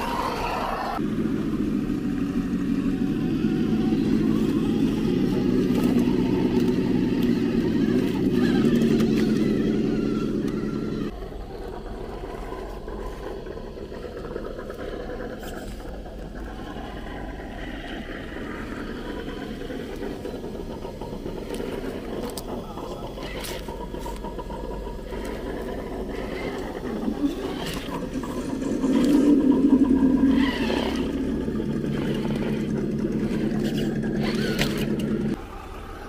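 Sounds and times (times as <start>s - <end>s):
electric motor whining: 0.0s - 35.4s.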